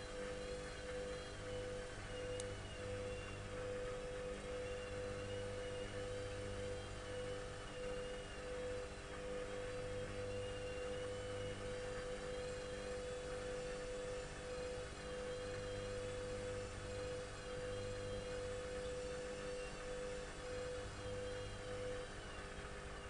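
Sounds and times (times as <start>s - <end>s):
washing machine motor whining: 0.0s - 23.0s.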